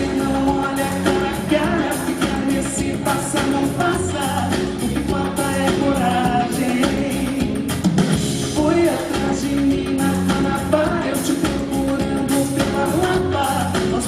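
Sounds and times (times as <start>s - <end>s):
person singing: 0.0s - 7.8s, 8.4s - 14.0s
live band music: 0.0s - 14.0s
steady drum beat: 0.0s - 14.0s.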